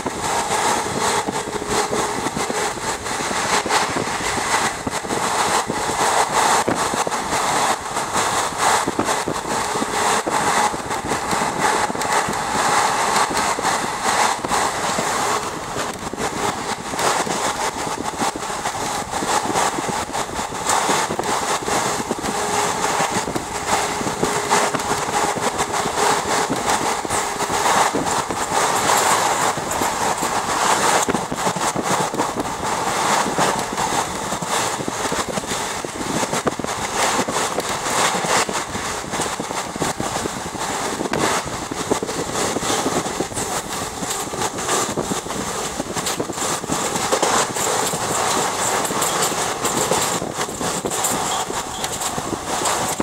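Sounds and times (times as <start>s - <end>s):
rapid track clatter: 0.0s - 53.0s
train wheel and track noise: 0.0s - 53.0s.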